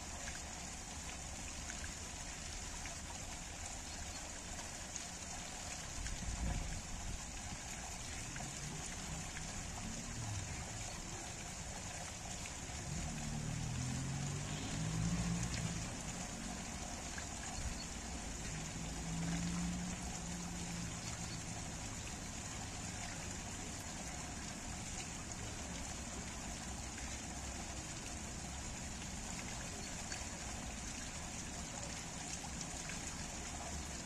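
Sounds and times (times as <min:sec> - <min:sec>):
water splashing onto rocks: 0:04.4 - 0:34.0.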